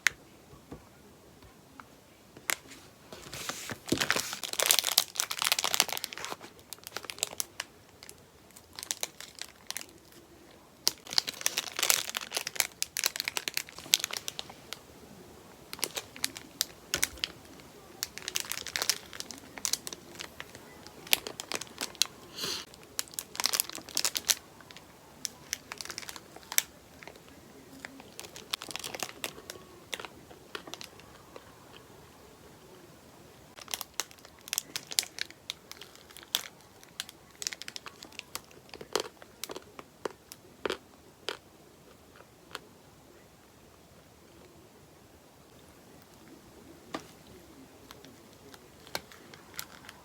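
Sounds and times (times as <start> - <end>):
crinkling and rustling: 2.4 - 32.0, 33.5 - 41.4, 45.5 - 50.0.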